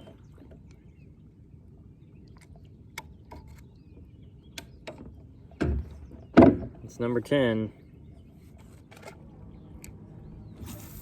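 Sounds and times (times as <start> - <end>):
distant bird calls: 0.0 - 11.0.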